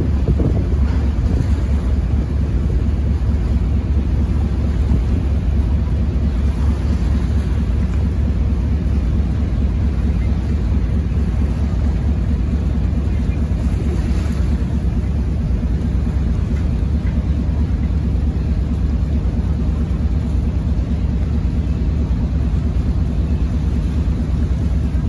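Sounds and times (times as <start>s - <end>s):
ferry engine rumble: 0.0s - 25.0s
wind buffeting microphone: 0.0s - 25.0s.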